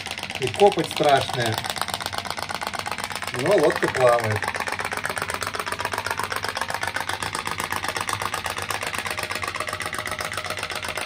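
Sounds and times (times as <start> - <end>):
pop-pop boat engine popping: 0.0 - 11.0.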